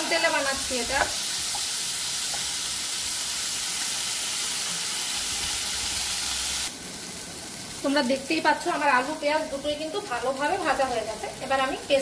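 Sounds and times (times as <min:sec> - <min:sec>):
potatoes sizzling in a wok: 0:00.0 - 0:12.0.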